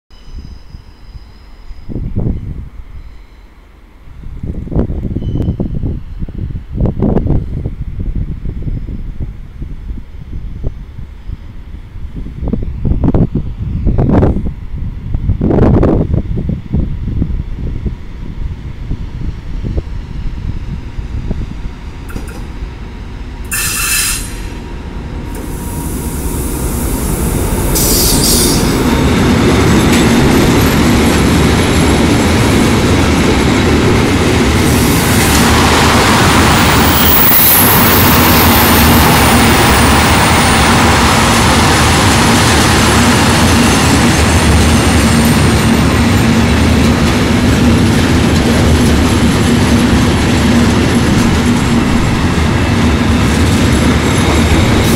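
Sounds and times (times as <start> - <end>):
train rumble: 0.2 - 54.9.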